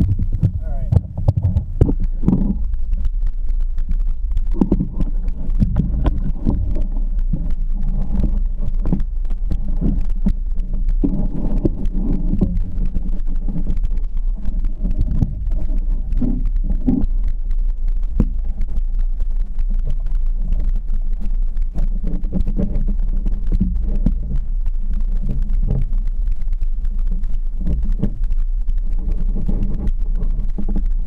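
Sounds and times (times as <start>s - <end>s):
knocks and thumps of tumbling drone: 0.0s - 31.0s
muffled low rumble: 0.0s - 31.0s.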